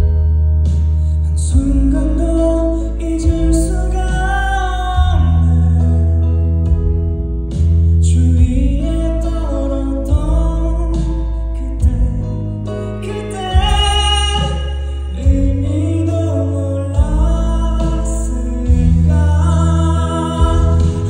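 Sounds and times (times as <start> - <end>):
instrumental accompaniment with bass: 0.0 - 21.0
man singing: 1.2 - 6.6, 8.0 - 21.0.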